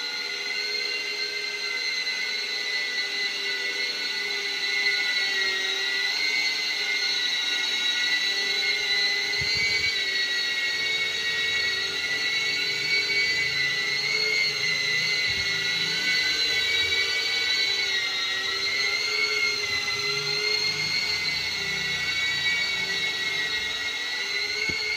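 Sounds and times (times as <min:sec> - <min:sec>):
drone propeller whine: 0:00.0 - 0:24.9.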